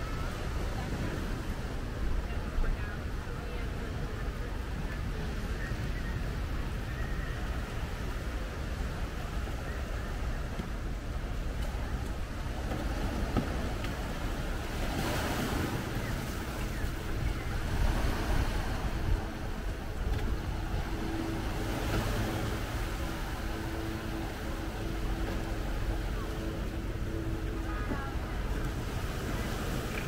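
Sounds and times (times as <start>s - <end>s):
faint steady hum: 0.0s - 30.0s
ocean surf on beach: 0.0s - 30.0s
wind buffeting microphone: 0.0s - 30.0s.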